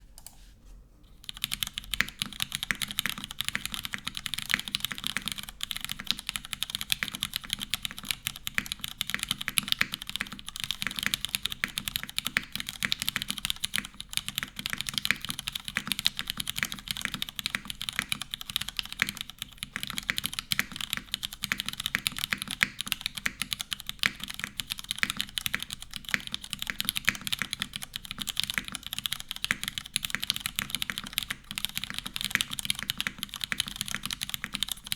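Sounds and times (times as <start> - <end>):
mechanical keyboard typing: 1.1 - 34.9.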